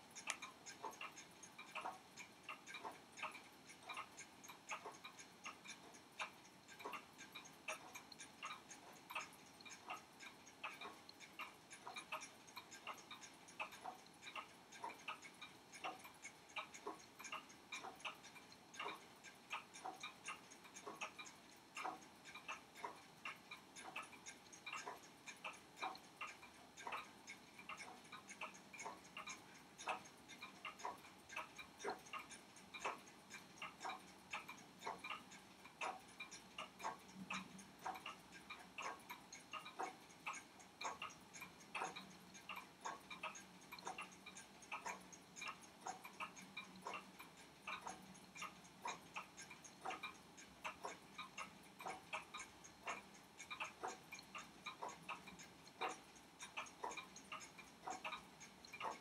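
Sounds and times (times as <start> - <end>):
pocket watch ticking: 0.0 - 59.0.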